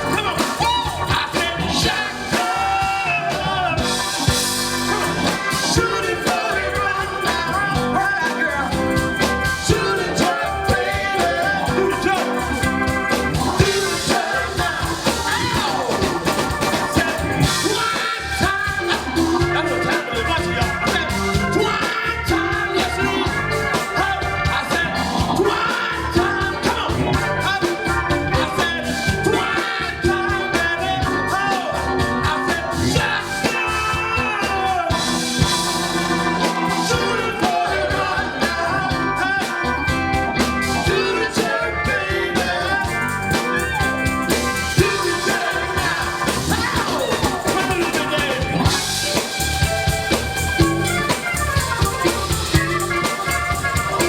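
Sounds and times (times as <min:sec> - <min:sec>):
person singing: 0:00.0 - 0:49.6
drum kit beat: 0:00.0 - 0:54.0
live band playing: 0:00.0 - 0:54.0.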